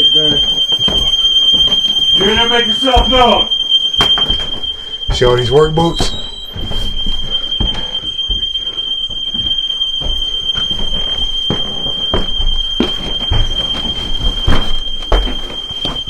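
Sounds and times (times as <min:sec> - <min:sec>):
house alarm high-pitched tone: 0:00.0 - 0:16.0
heavy footsteps on floor: 0:00.4 - 0:05.2, 0:06.0 - 0:16.0.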